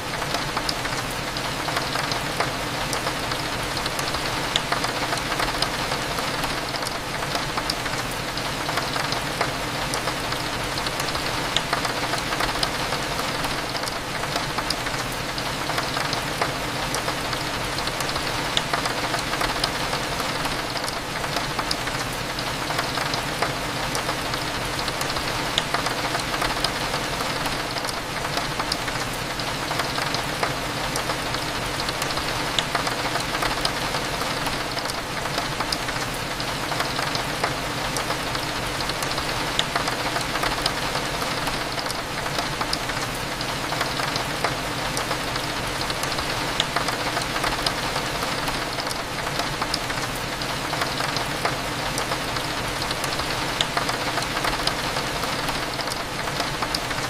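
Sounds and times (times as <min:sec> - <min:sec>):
rain against a window: 0:00.0 - 0:57.0.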